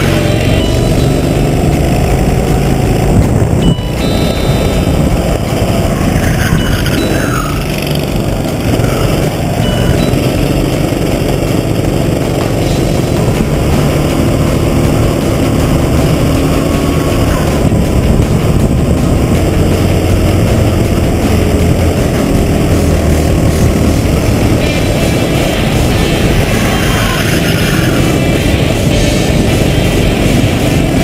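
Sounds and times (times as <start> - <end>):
go-kart engine racing: 0.0 - 31.0
other kart engines: 0.0 - 31.0
rush of noise: 0.0 - 31.0.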